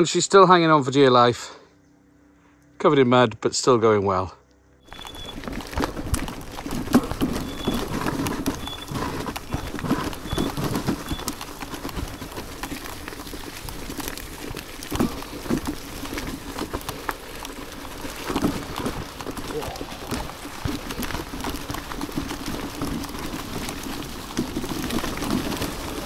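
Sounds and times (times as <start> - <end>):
tyres crunching over gravel: 4.8 - 26.0
scooter frame rattling: 4.9 - 26.0.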